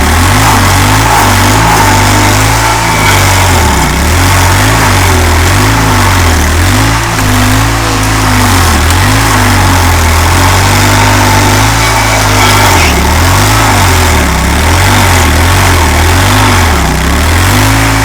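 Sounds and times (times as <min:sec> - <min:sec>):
stump grinder engine running: 0:00.0 - 0:18.0.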